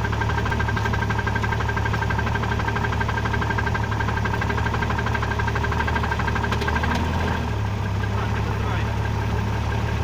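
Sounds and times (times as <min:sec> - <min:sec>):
car engine idling with knock: 0:00.0 - 0:10.0.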